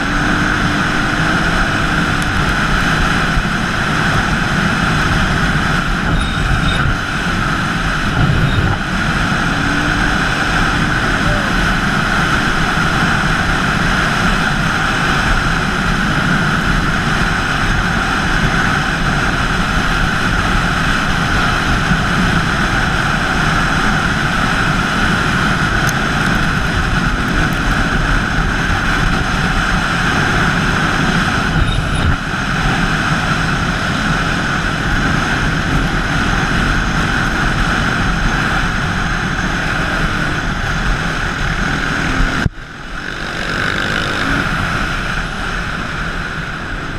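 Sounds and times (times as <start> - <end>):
dirt bike engine running: 0.0 - 46.9
wind noise on microphone: 0.0 - 46.9.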